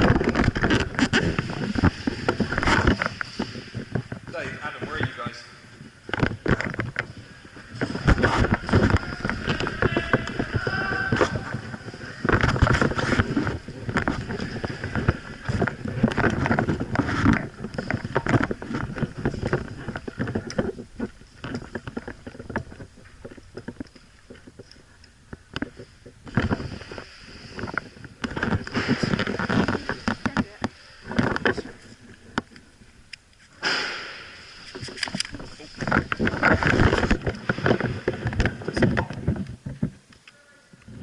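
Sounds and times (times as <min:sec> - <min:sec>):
clothing rustling on camera: 0:00.0 - 0:33.6
footsteps: 0:00.0 - 0:40.0.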